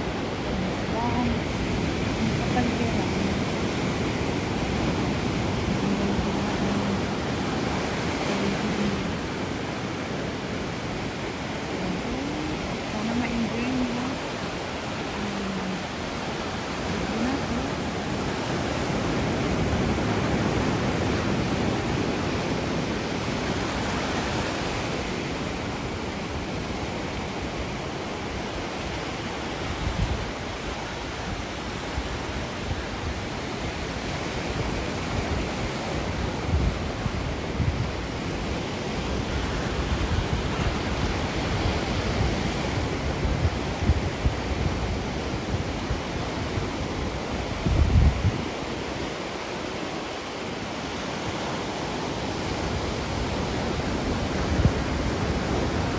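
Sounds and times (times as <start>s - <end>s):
wind buffeting microphone: 0.0s - 49.8s, 50.6s - 55.9s
ocean waves washing in: 0.0s - 55.9s.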